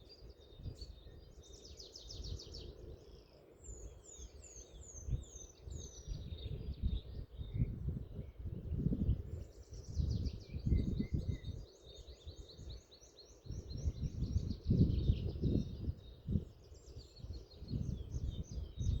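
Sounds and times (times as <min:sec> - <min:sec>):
small songbirds singing: 0:00.0 - 0:19.0.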